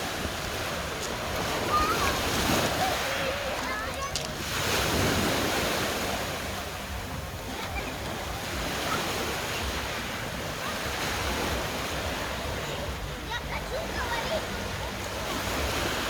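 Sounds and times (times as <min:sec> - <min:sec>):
surf washing on shore: 0:00.0 - 0:16.0.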